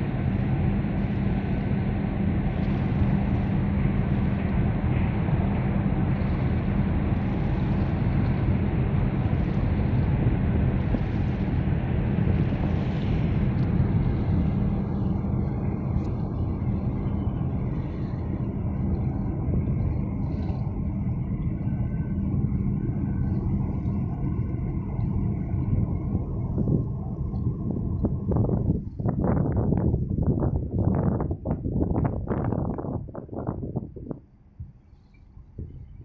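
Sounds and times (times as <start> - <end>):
boat engine droning: 0.0 - 36.0
water noise: 0.0 - 36.0
wind noise: 0.0 - 36.0.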